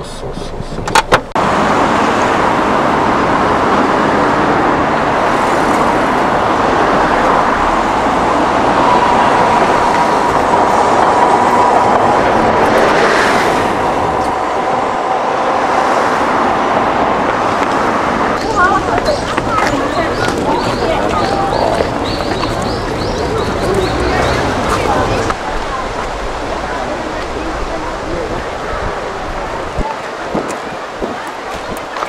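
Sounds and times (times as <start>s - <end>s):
vehicle running noise: 0.0s - 32.0s.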